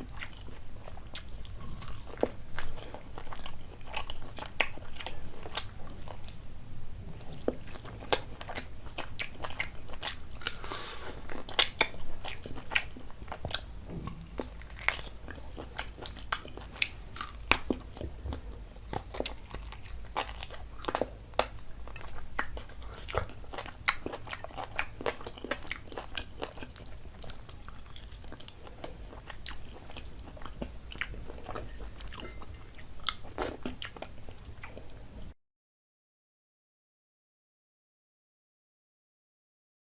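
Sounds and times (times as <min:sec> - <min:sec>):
food crunching: 0:00.0 - 0:06.4, 0:07.2 - 0:34.8
person chewing food: 0:00.0 - 0:06.4, 0:07.0 - 0:35.2.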